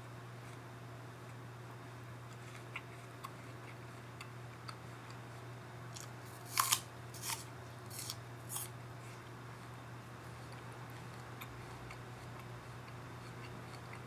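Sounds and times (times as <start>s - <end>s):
crunching of chewing an apple: 2.2s - 14.0s.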